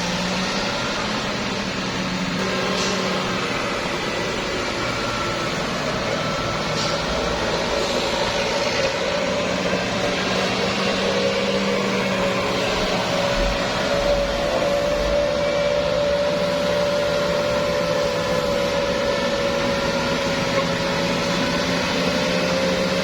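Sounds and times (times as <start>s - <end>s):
road noise: 0.0s - 23.0s
truck engines: 0.0s - 23.0s
held humming tone: 2.3s - 23.0s.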